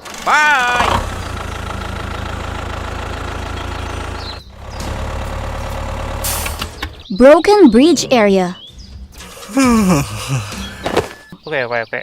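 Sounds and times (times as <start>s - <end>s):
vehicle engine running: 0.0s - 8.0s, 8.7s - 11.4s.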